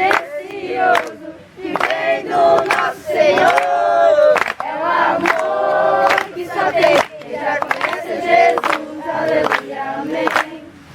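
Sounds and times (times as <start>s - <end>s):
hand claps: 0.0s - 3.7s, 4.4s - 10.6s
group singing and shouting chant: 0.0s - 10.9s.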